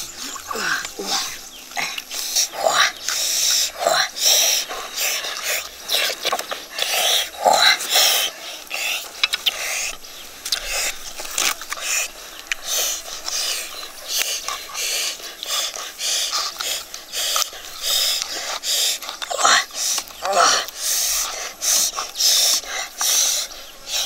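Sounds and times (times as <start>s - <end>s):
person chewing noisily: 0.0s - 24.0s.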